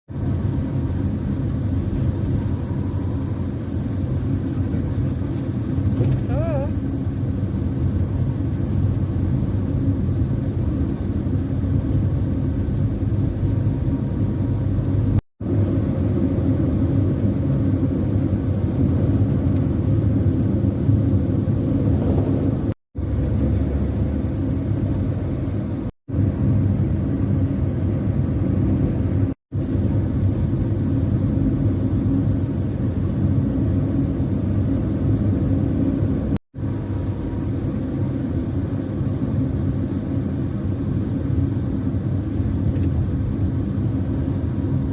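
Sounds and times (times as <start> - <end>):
truck engine drone: 0.1 - 44.9.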